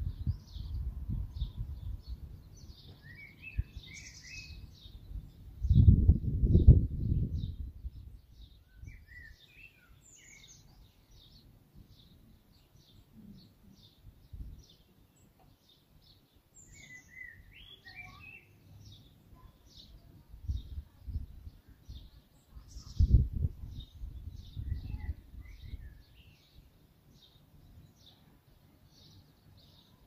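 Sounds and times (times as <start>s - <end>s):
bird warbling song: 0.0s - 30.0s.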